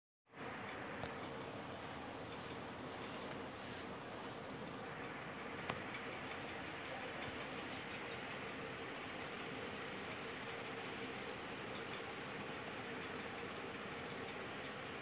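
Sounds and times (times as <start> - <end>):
faint hum: 0.3 - 15.0.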